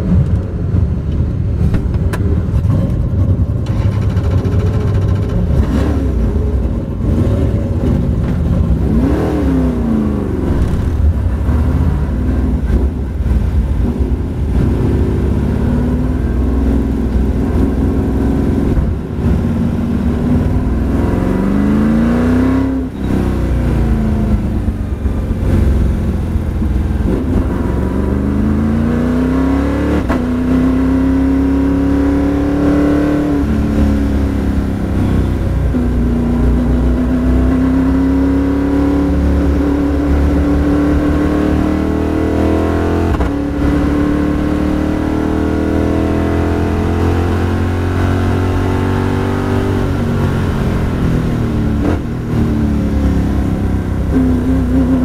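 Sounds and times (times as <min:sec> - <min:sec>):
race car engine revving: 0:01.6 - 0:55.0.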